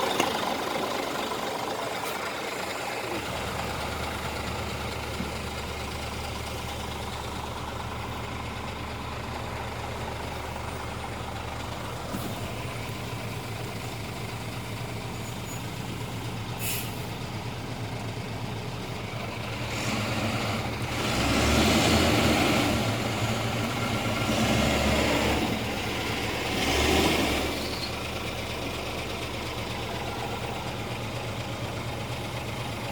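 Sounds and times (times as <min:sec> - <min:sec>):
diesel truck engine idling and revving: 0:00.0 - 0:32.9.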